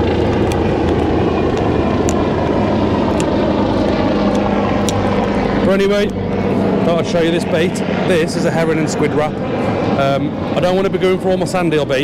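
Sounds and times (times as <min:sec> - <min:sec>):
low humming tone: 0:00.0 - 0:11.2
helicopter engine and rotor drone: 0:00.0 - 0:12.0.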